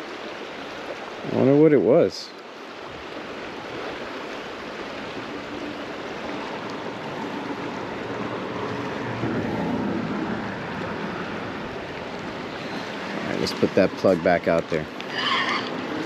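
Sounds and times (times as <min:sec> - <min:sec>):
rushing water: 0:00.0 - 0:16.0
wind: 0:00.0 - 0:16.0.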